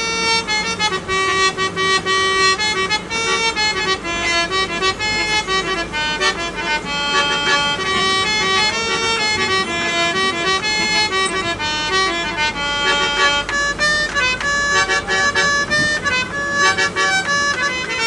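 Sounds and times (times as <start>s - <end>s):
harmonium melody: 0.0s - 18.0s.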